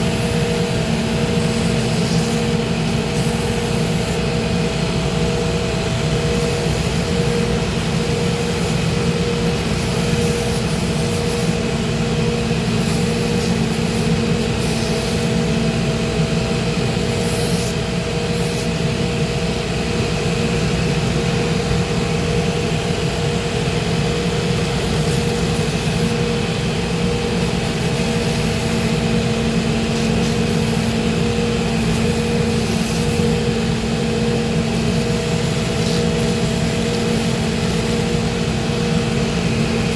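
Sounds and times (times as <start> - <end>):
electric motor humming: 0.0 - 19.4, 23.8 - 39.9.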